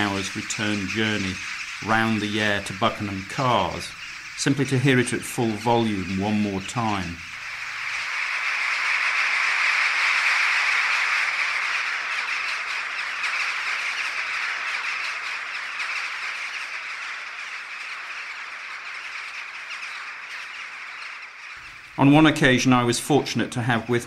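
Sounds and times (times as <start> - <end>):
flock of crows calling: 0.0 - 24.0.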